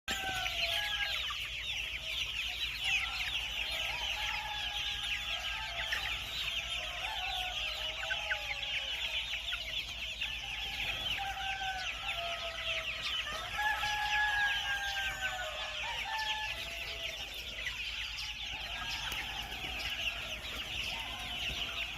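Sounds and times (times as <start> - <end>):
chickens clucking: 0.1 - 21.9.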